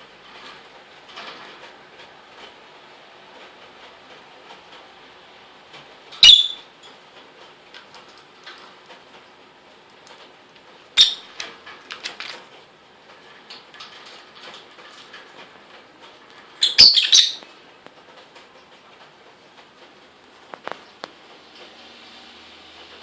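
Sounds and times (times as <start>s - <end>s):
small clicks and rustles: 0.0s - 16.6s, 17.4s - 22.2s.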